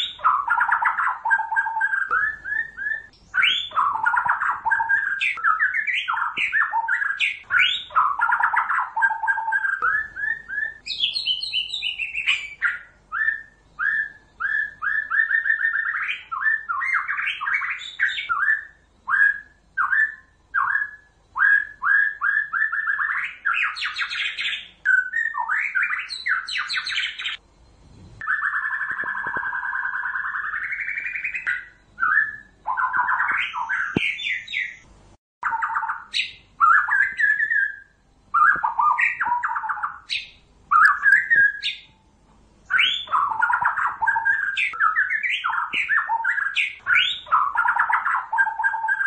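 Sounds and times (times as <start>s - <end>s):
bird singing whistled phrases: 0.0s - 27.4s, 28.2s - 42.0s, 42.7s - 49.0s.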